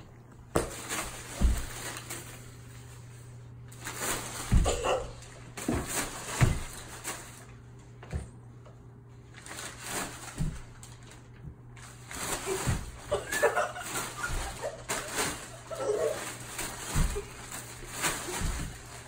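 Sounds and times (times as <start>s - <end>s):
paper bag crinkling and rustling: 0.6s - 7.7s, 9.2s - 19.0s.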